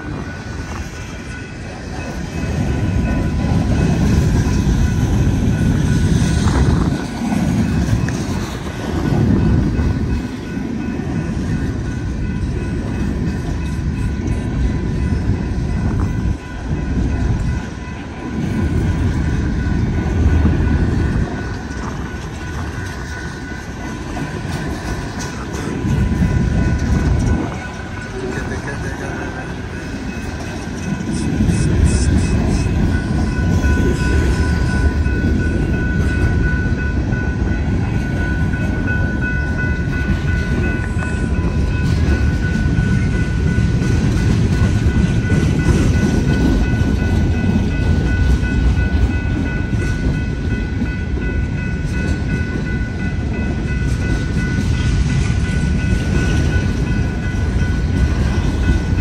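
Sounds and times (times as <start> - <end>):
crossing bell ringing: 0.0 - 59.0
train wheels rumbling on rail: 0.0 - 59.0.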